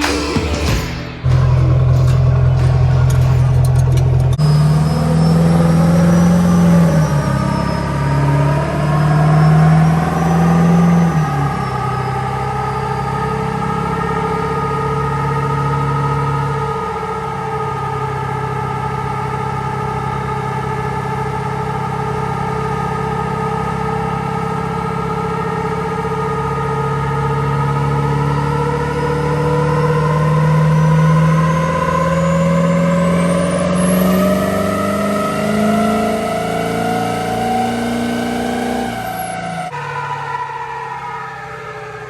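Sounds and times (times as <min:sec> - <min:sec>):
high whine rising in pitch: 0:00.0 - 0:42.0
truck engine revving under load: 0:00.0 - 0:42.0.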